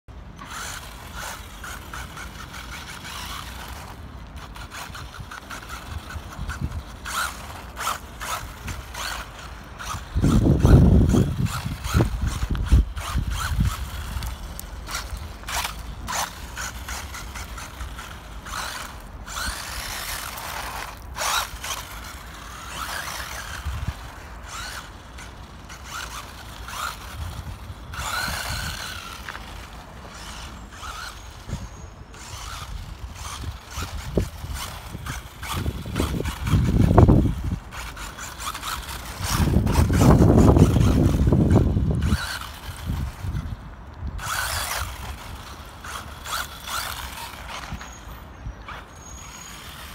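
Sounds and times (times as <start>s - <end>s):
tyre and drivetrain noise: 0.1s - 49.9s
electric motor whining: 0.3s - 49.9s.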